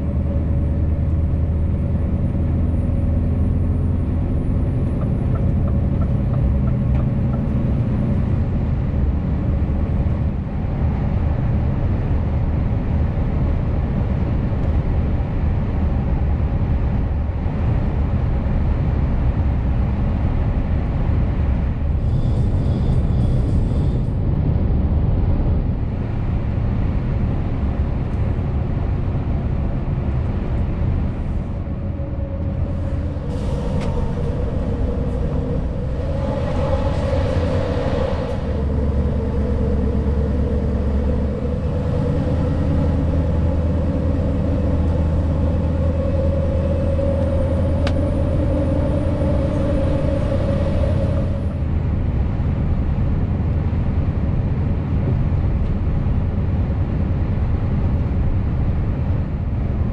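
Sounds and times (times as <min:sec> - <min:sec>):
tyre and road noise: 0:00.0 - 0:55.7
diesel engine cruising: 0:00.0 - 0:59.9.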